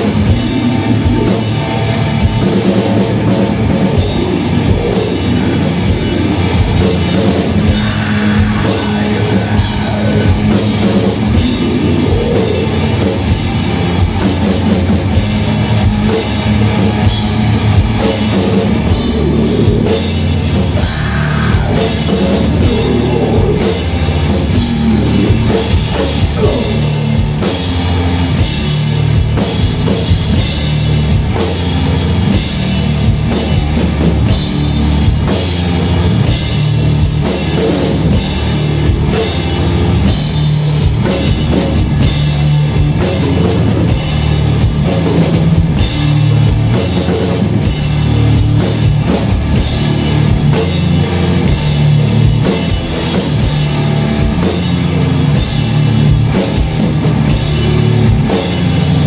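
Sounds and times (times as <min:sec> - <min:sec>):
drum and cymbal hits: 0:00.0 - 0:59.0
heavy distorted guitar: 0:00.0 - 0:59.0.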